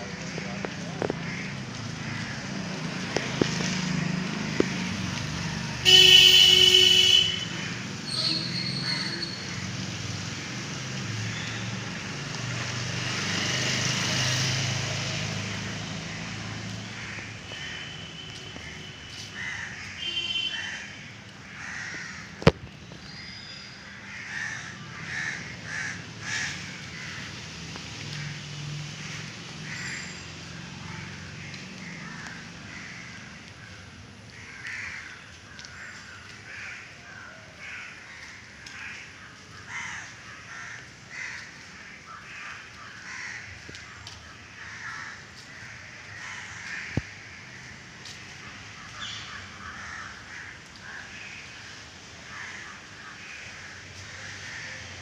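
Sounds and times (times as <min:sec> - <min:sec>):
crows cawing: 0:00.3 - 0:04.9, 0:05.9 - 0:09.8, 0:15.3 - 0:22.6, 0:23.3 - 0:27.4, 0:28.0 - 0:55.0.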